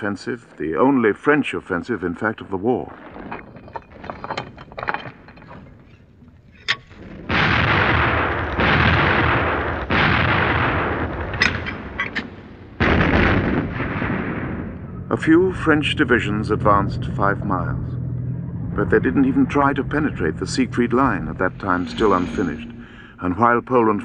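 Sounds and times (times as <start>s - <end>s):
artillery blasts with rumble: 1.6s - 24.0s.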